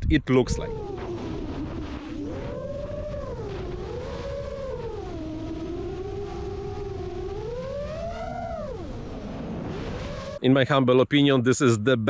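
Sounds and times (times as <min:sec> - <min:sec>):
wind rushing: 0:00.0 - 0:10.4
drone motors whining: 0:00.4 - 0:10.4.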